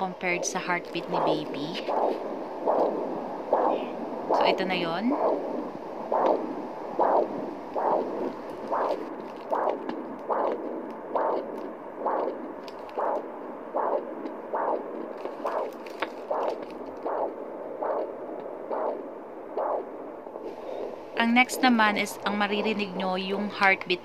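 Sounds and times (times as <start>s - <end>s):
whooshing heartbeat pulse from speaker: 0.0s - 23.6s.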